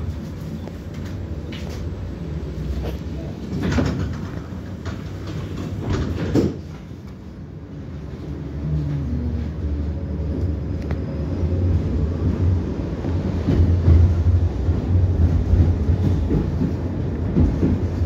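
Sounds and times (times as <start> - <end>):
tram rolling rumble: 0.0 - 18.0
tram traction hum: 0.0 - 18.0.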